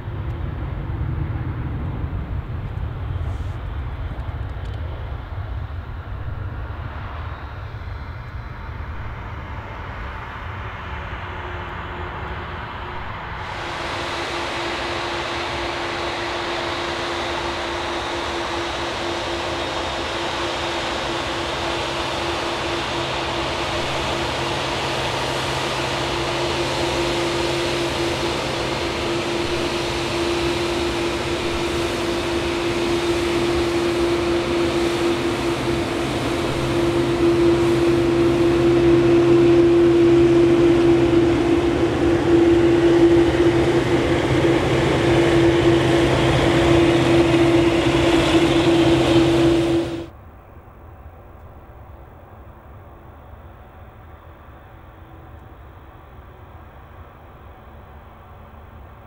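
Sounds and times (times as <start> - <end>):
jet engines idling: 0.0 - 59.0.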